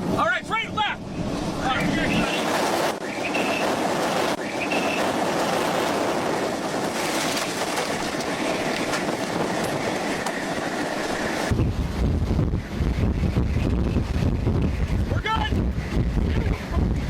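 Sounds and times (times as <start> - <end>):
wind rushing: 0.0 - 17.0
wind buffeting microphone: 1.0 - 17.0.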